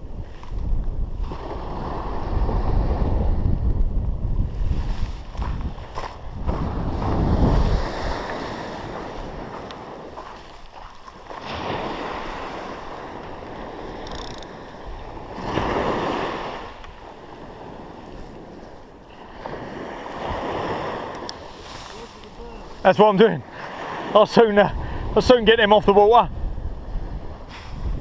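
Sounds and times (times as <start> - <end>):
wind buffeting microphone: 0.0 - 22.8, 23.5 - 28.0
sea waves breaking on beach: 1.1 - 3.5, 4.5 - 28.0.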